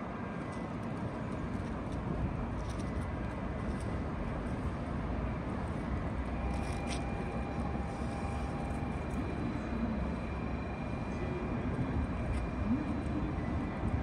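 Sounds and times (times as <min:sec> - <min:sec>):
thin steady whine: 0:00.0 - 0:14.0
train engine rumble and hum: 0:00.0 - 0:14.0.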